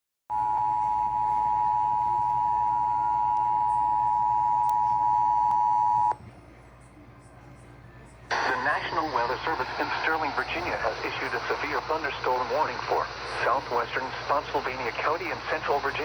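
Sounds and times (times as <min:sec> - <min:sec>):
faint low hum: 0:00.3 - 0:16.0.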